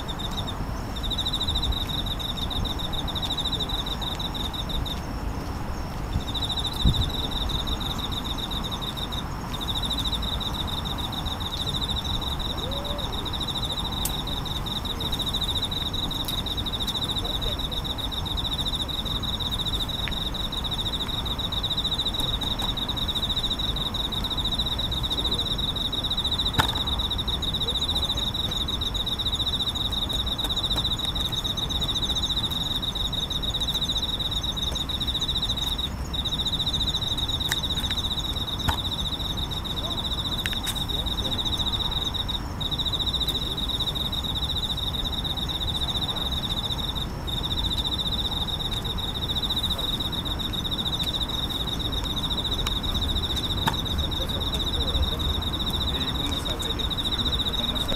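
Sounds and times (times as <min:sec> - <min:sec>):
crickets trilling: 0:00.0 - 0:57.9
higher-pitched insect song: 0:00.0 - 0:57.9.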